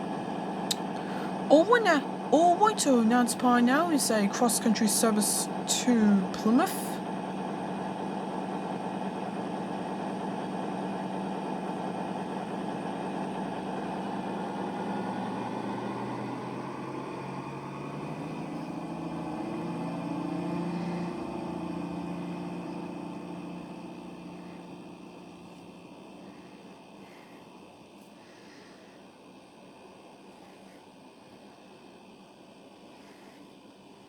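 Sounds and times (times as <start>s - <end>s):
train diesel engines running: 0.0s - 34.0s.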